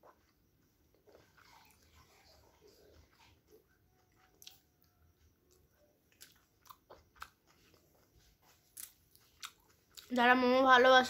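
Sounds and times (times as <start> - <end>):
person chewing food: 0.0 - 10.2.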